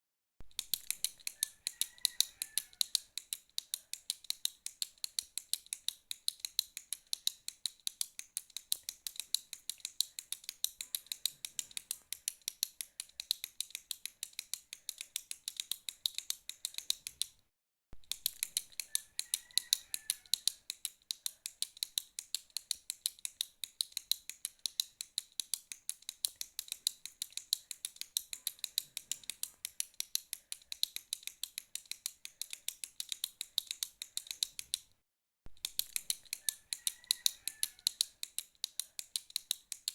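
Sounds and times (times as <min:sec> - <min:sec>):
retractable pen clicking: 0:00.5 - 0:17.4, 0:18.0 - 0:35.0, 0:35.6 - 0:39.9.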